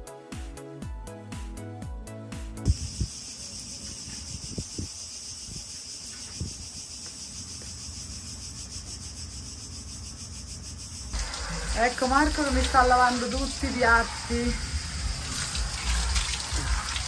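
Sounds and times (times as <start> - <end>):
insects chirring: 2.7 - 17.0.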